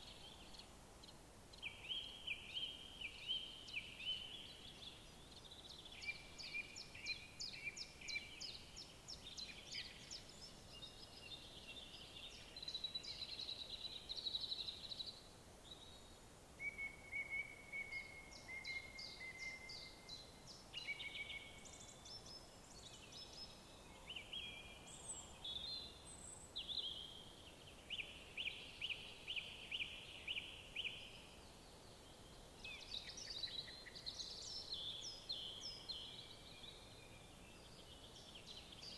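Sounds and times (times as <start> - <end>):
faint outdoor background: 0.0 - 38.9
songbirds singing trills: 0.0 - 38.9.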